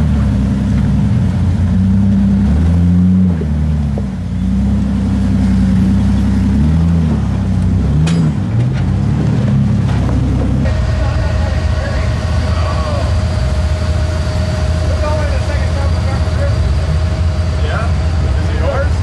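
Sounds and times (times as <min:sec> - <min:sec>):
engine revving at low speed: 0:00.0 - 0:19.0.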